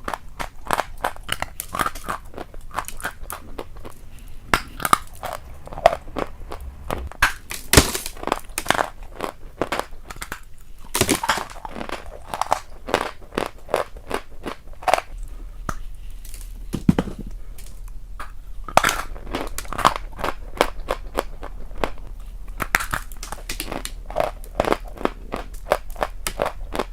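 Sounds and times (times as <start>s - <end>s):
person chewing crunchy food: 0.0s - 7.1s, 9.1s - 16.6s, 18.2s - 26.9s.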